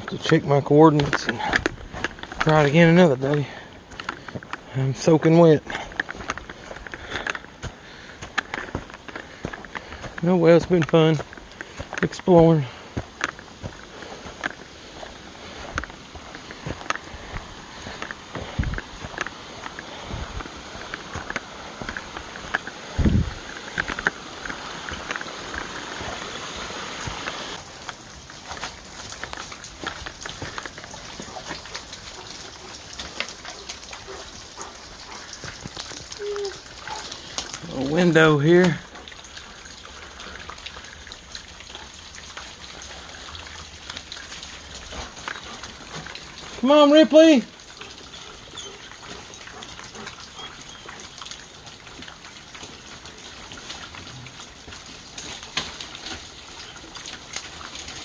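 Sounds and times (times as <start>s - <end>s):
water dripping on rock and leaves: 0.0s - 58.0s.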